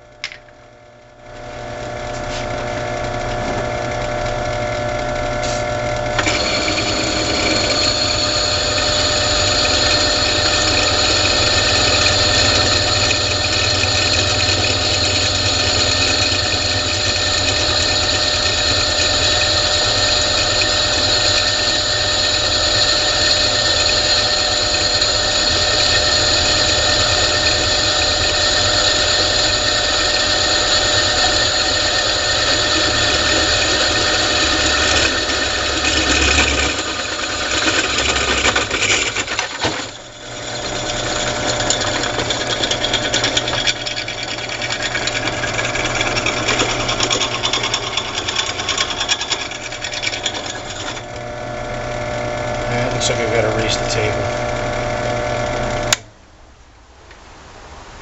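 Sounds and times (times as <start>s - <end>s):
drill press motor hum: 0.2s - 56.1s
drill bit cutting steel: 2.1s - 56.0s.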